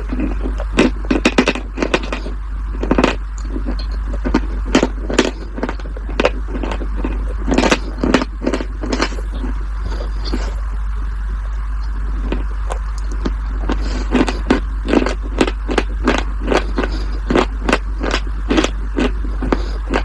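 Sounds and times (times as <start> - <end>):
crunchy food being chewed: 0.0 - 20.0
steady low hum: 0.0 - 20.0.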